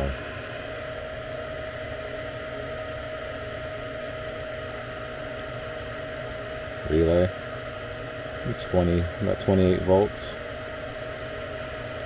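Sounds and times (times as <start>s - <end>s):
faint steady whine: 0.0s - 12.0s
furnace motor humming: 0.0s - 12.0s.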